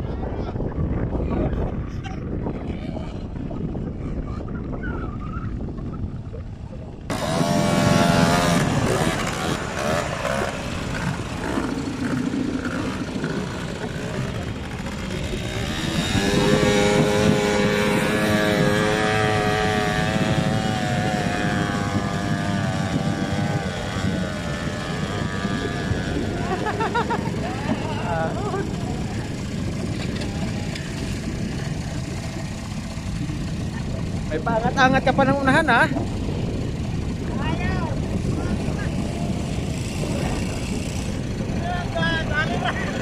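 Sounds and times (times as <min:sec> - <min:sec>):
quad bike engine revving: 0:02.4 - 0:04.6, 0:07.1 - 0:43.0.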